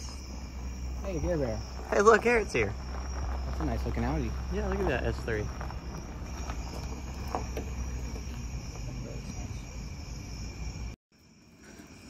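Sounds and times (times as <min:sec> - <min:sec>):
low rumbling background: 0:00.0 - 0:09.8
crickets chirping: 0:00.0 - 0:12.0.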